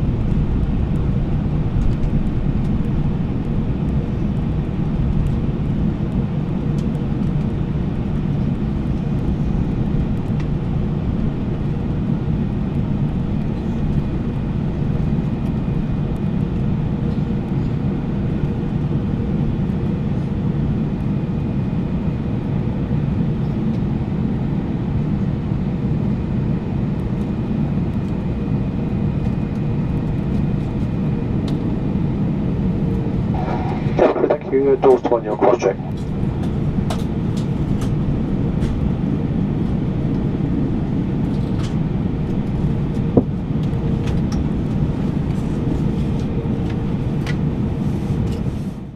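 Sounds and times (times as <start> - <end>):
aircraft cabin engine rumble: 0.0 - 48.9
faint constant hum: 0.0 - 48.9.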